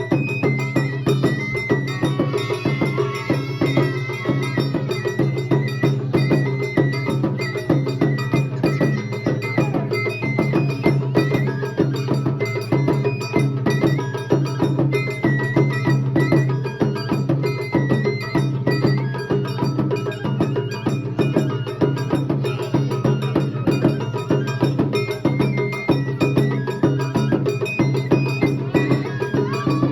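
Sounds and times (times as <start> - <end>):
drums: 0.0 - 29.9
wooden percussion: 0.0 - 29.9.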